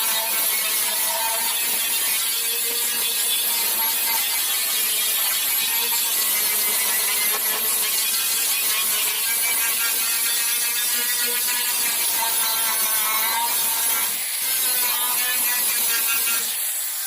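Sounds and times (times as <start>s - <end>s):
power tool hissing and whining: 0.0s - 17.0s.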